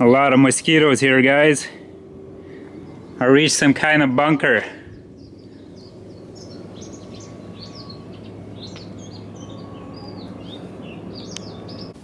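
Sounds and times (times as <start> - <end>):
birds chirping and whistling: 0.0 - 3.7, 4.8 - 12.0
steady low hum: 0.0 - 12.0.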